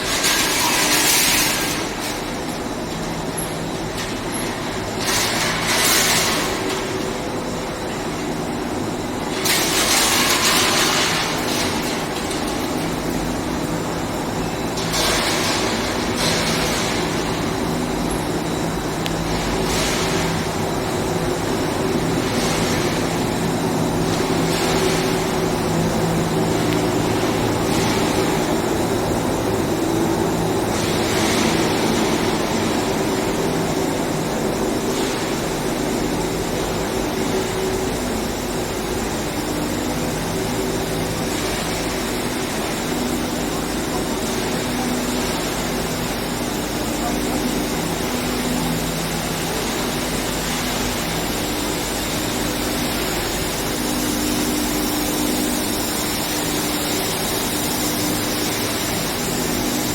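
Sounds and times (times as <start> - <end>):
constant industrial hiss: 0.0 - 59.9.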